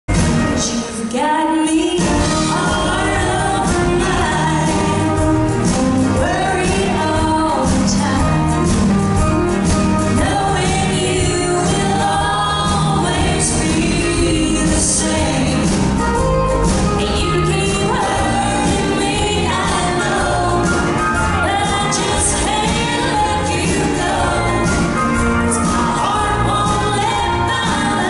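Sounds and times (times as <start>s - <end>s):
band playing: 0.1s - 28.0s
woman singing into microphone: 0.5s - 8.8s, 10.1s - 16.2s, 16.9s - 28.0s.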